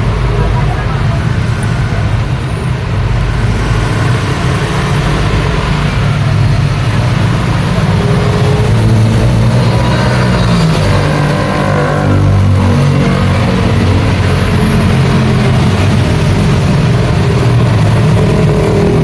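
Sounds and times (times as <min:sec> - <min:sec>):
tyre and road noise: 0:00.0 - 0:19.0
vehicle engines humming: 0:00.0 - 0:19.0.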